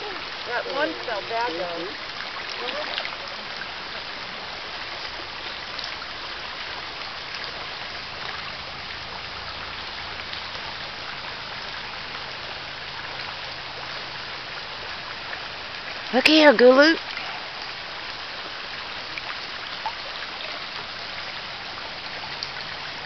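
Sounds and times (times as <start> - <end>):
stream running over stones: 0.0 - 23.0.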